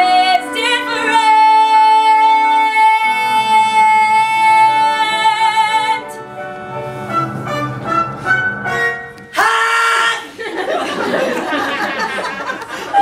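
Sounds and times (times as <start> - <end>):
musical accompaniment: 0.0 - 13.0.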